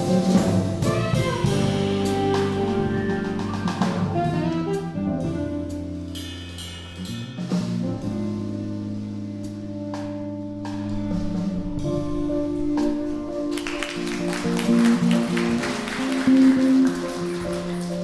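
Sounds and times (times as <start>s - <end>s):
alto saxophone: 0.0s - 6.2s, 7.9s - 18.0s
drum kit with cymbals: 0.0s - 18.0s
electric bass: 0.0s - 18.0s
grand piano: 0.0s - 18.0s.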